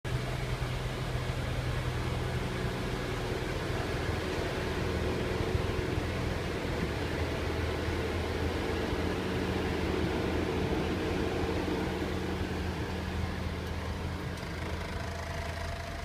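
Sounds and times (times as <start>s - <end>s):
mechanical drone with low hum: 0.1s - 16.0s.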